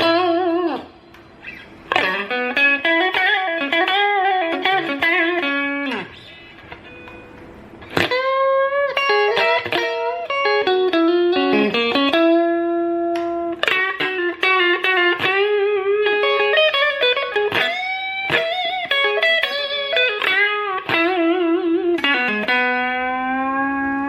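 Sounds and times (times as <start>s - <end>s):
electric guitar lead line: 0.0s - 24.0s.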